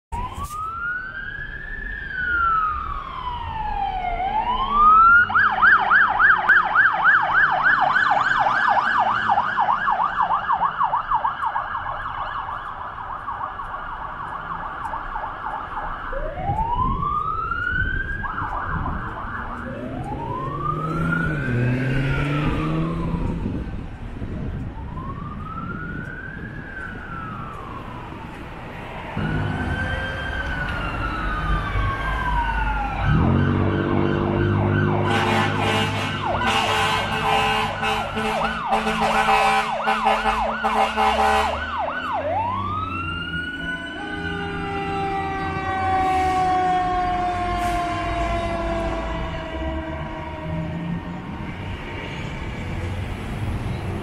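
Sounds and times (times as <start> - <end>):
emergency vehicle sirens: 0.1 - 54.0.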